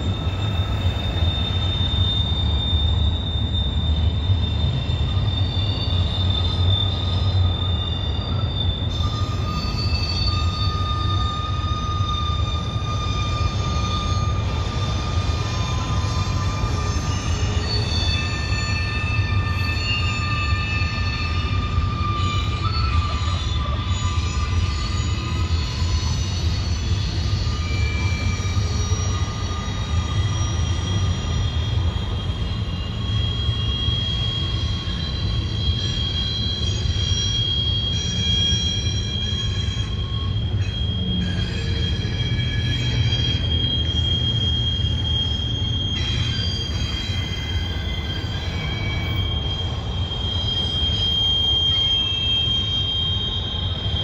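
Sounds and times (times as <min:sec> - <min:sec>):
high wheel squeal: 0:00.0 - 0:54.0
train wheels rumbling on rail: 0:00.0 - 0:54.0.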